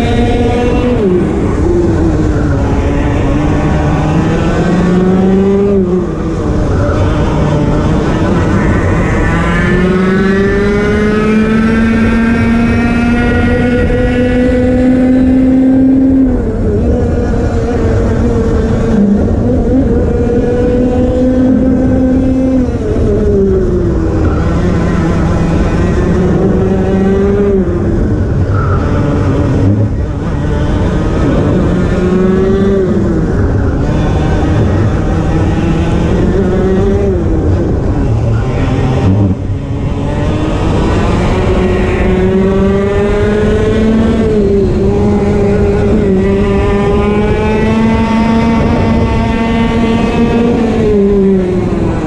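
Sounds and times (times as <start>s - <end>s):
kart engine at full throttle: 0.0s - 52.0s.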